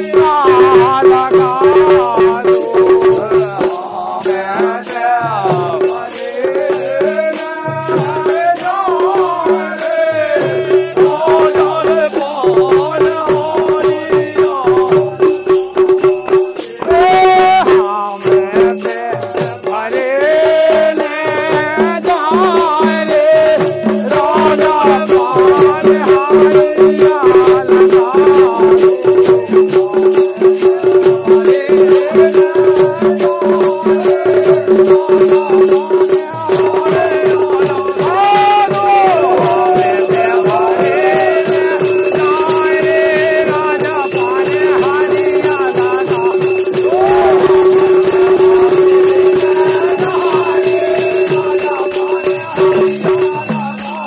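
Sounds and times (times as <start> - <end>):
fast barrel drumming: 0.0 - 54.0
jingling rattling percussion: 0.0 - 54.0
man singing: 0.0 - 54.0.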